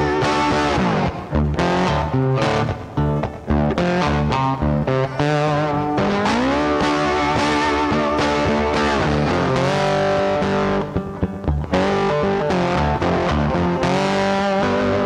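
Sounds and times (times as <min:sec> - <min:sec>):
distorted electric guitar music: 0:00.0 - 0:15.0.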